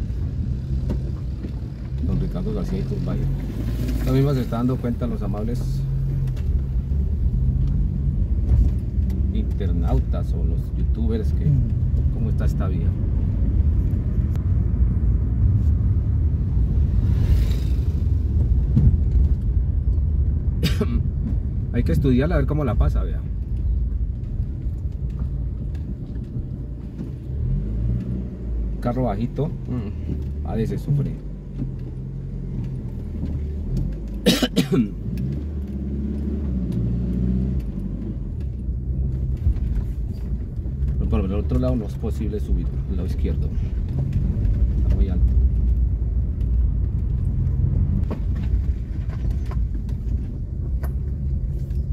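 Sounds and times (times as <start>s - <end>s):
stones ticking and rattling: 0.0s - 14.5s, 18.0s - 28.2s, 29.0s - 34.3s, 34.9s - 51.9s
car engine and road rumble: 0.0s - 51.9s.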